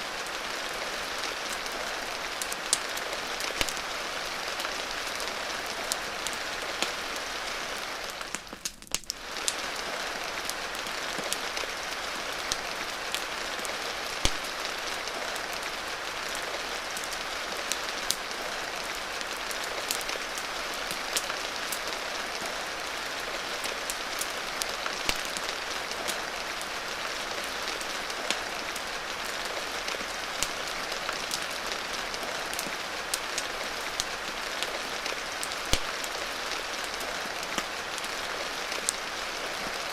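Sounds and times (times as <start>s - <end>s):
steady rain hiss: 0.0s - 39.9s
wood fire crackling and popping: 1.2s - 22.6s, 23.3s - 39.9s.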